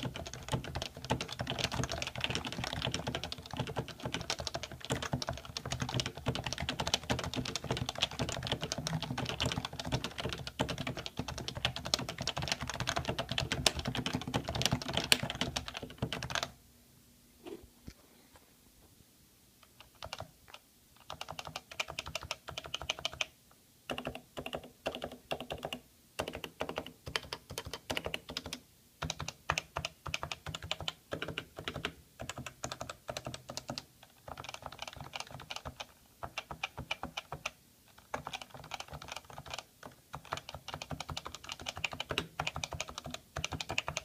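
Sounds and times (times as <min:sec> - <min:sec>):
keyboard typing: 0:00.0 - 0:16.5, 0:19.7 - 0:23.3, 0:23.9 - 0:44.0.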